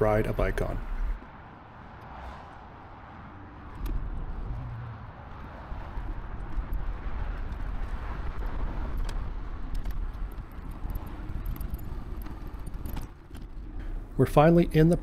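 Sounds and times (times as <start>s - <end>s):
road traffic: 0.0s - 15.0s
wind rumble on microphone: 0.7s - 14.2s.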